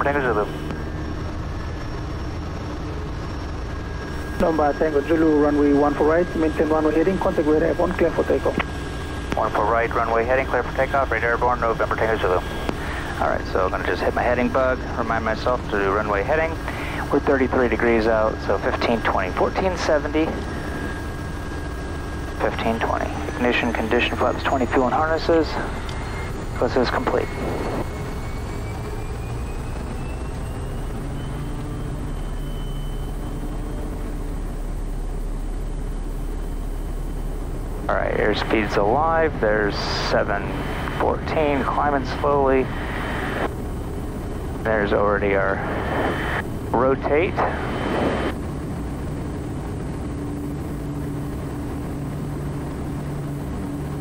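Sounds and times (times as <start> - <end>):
faint hum: 0.0 - 54.0
turboprop engine drone and whine: 0.0 - 54.0.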